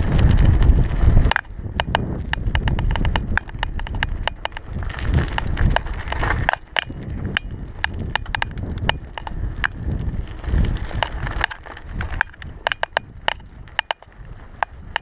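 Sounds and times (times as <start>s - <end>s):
bike clicking and rattling: 0.0s - 15.0s
bike tyres rumbling on dirt: 0.0s - 15.0s.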